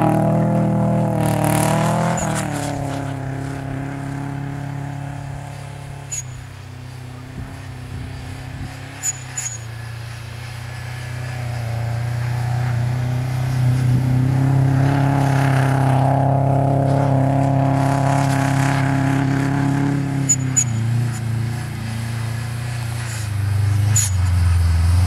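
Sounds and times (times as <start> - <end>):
car engine at high revs: 0.0 - 25.0.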